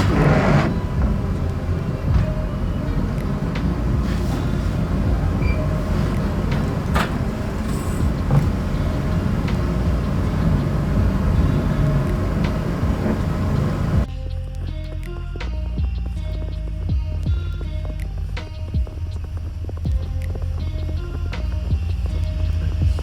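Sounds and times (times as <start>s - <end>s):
background music: 0.0s - 23.0s
vehicle engine and road rumble: 0.0s - 23.0s.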